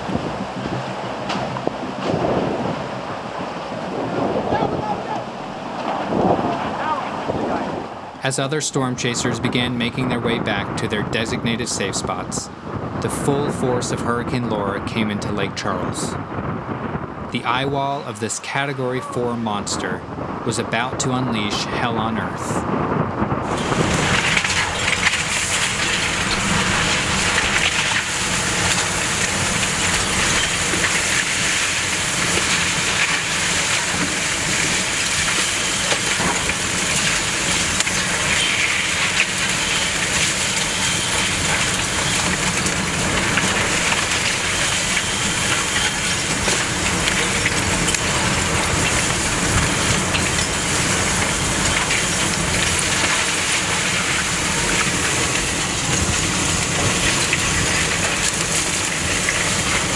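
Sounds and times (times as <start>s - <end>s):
hurricane winds with rain: 0.0s - 59.9s.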